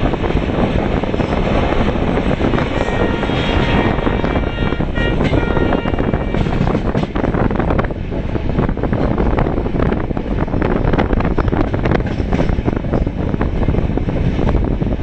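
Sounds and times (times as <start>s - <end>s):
train wheels rattling on rails: 0.0s - 15.0s
wind buffeting microphone: 0.0s - 15.0s.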